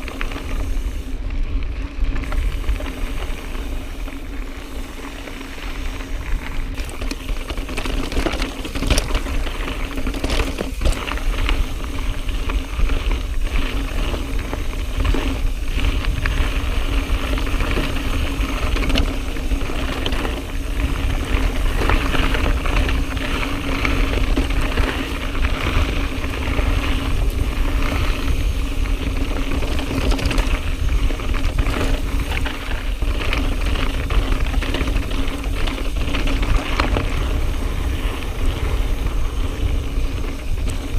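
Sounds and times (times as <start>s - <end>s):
bike chain and frame rattling: 0.0s - 40.9s
bike tyres crunching on dirt: 0.0s - 40.9s
wind on microphone: 0.0s - 40.9s.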